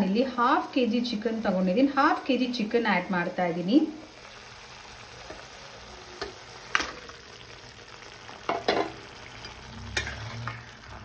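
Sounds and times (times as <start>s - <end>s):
paste sizzling and bubbling in pan: 0.0s - 11.0s.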